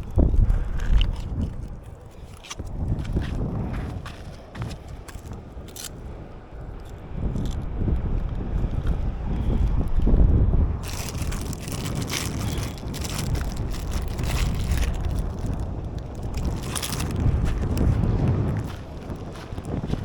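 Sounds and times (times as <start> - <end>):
crunching noises: 0.0 - 7.6, 10.8 - 20.0
wind buffeting microphone: 0.0 - 20.0.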